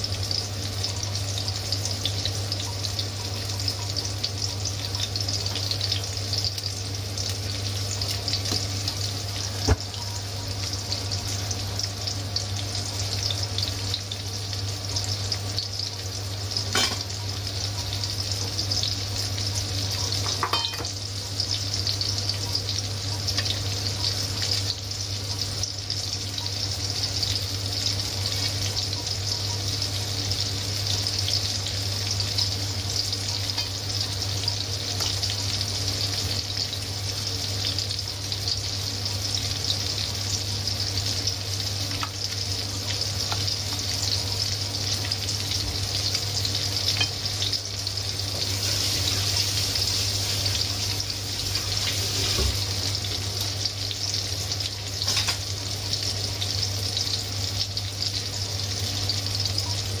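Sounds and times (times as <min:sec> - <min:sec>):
meat sizzling in hot oil: 0:00.0 - 1:00.0.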